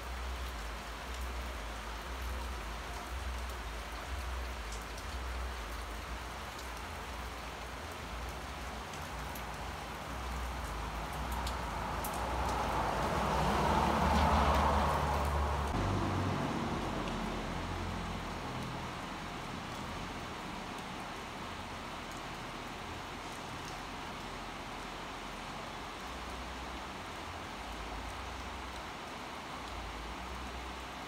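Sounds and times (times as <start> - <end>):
car tyres hissing on wet street: 0.0 - 31.0
rain falling: 0.0 - 31.0.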